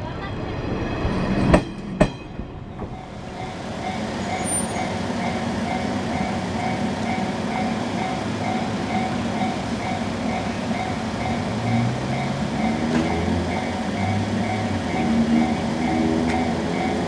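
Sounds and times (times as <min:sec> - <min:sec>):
electric train running: 0:00.0 - 0:17.0
level crossing warning bell ringing: 0:02.7 - 0:17.0.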